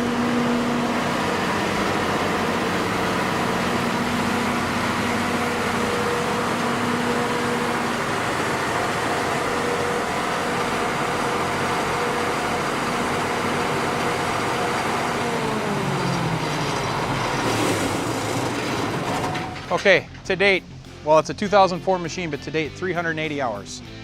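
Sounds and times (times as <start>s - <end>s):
diesel generator engine running: 0.0s - 24.0s.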